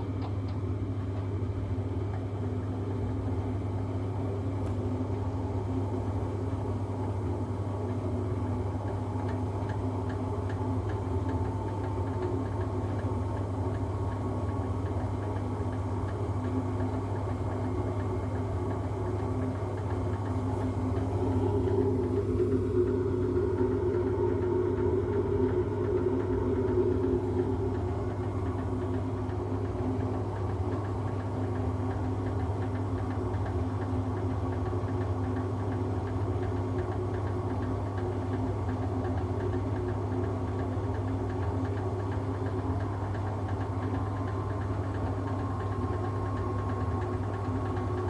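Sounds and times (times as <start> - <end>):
washing machine humming: 0.0 - 48.0.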